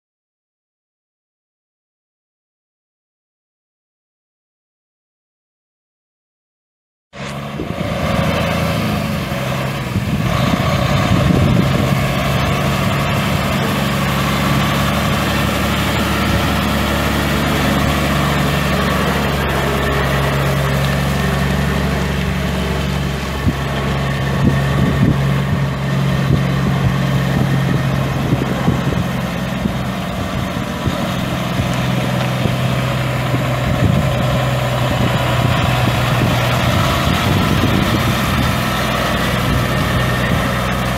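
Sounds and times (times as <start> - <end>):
diesel truck engine idling: 7.4 - 40.9.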